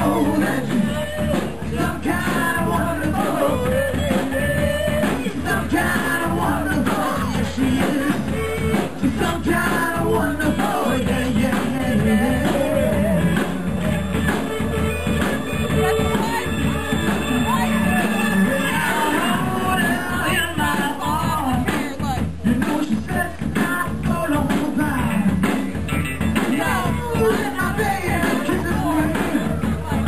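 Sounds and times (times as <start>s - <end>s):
pitch-bending lead guitar: 0.0s - 20.8s, 24.9s - 30.0s
bass guitar: 0.0s - 30.0s
drums: 0.0s - 30.0s
rock band playing loudly: 0.0s - 30.0s.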